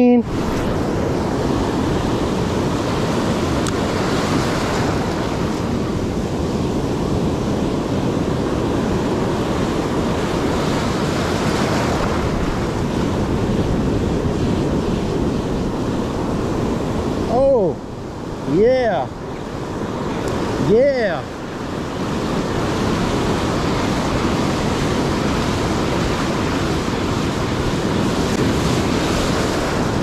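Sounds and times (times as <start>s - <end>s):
ocean waves breaking: 0.0s - 30.0s
wind rumbling on microphone: 0.0s - 30.0s.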